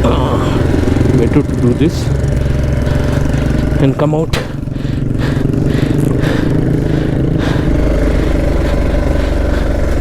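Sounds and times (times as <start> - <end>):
vehicle engine running under load: 0.0 - 10.0.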